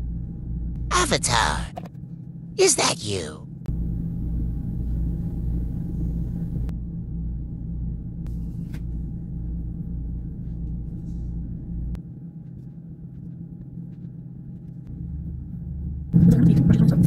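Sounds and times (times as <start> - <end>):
low mechanical hum: 0.0 - 0.9, 3.5 - 17.0.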